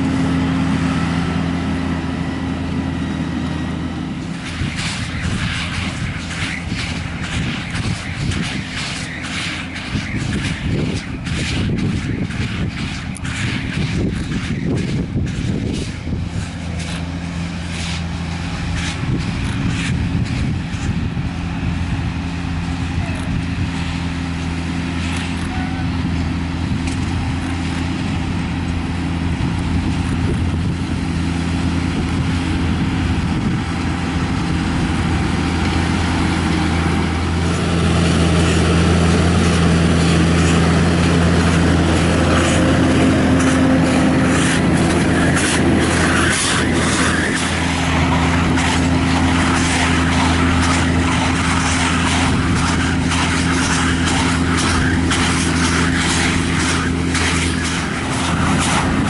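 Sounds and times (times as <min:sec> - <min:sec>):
baler mechanical rattle: 0:00.0 - 0:59.0
tractor engine under load: 0:00.0 - 0:59.0.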